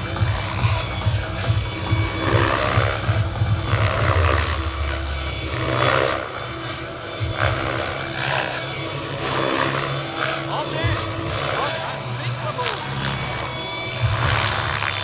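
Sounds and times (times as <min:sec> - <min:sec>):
electric motor whining: 0:00.0 - 0:15.0
helicopter rotor whooshing: 0:00.0 - 0:15.0.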